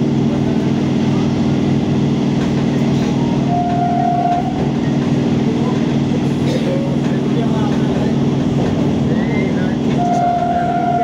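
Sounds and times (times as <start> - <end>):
rail running noise: 0.0 - 11.0
train motors humming: 0.0 - 11.0.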